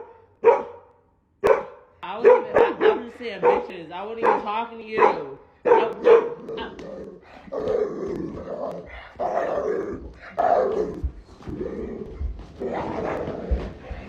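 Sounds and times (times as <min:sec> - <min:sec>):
dog calling: 0:00.0 - 0:12.0.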